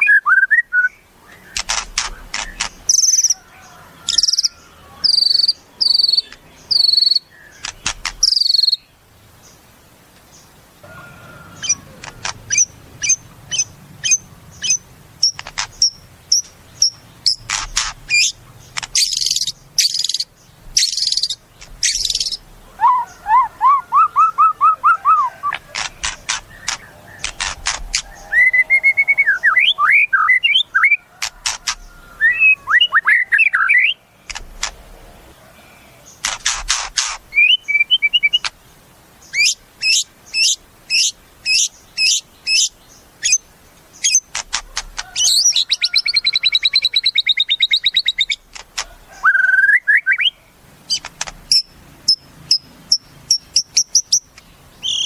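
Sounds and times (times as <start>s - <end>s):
songbird singing varied song: 0.0s - 55.0s.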